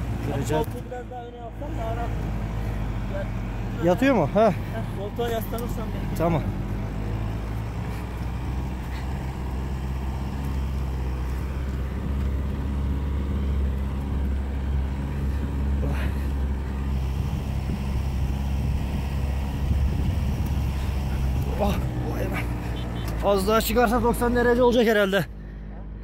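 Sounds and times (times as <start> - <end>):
vehicle engine droning under load: 0.0 - 26.0.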